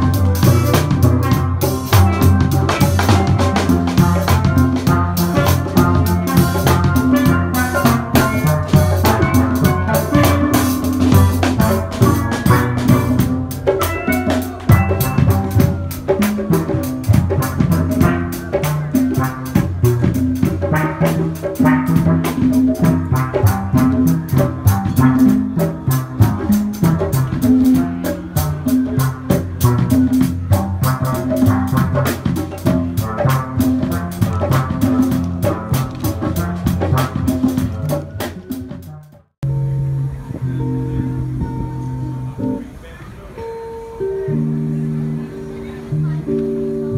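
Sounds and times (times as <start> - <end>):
drums fast beat: 0.0 - 39.4
struck-sounding melody: 0.0 - 46.9.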